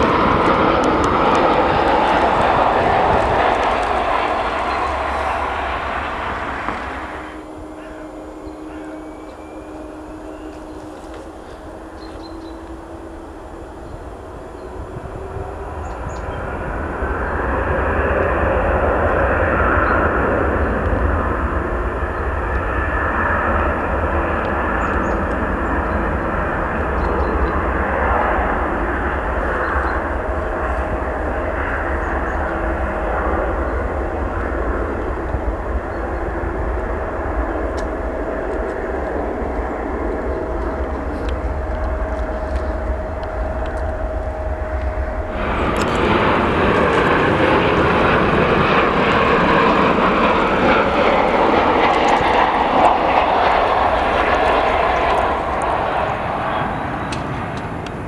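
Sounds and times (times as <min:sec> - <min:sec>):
faint jet engine whine: 0:00.0 - 0:58.0
jet engines roaring: 0:00.0 - 0:58.0.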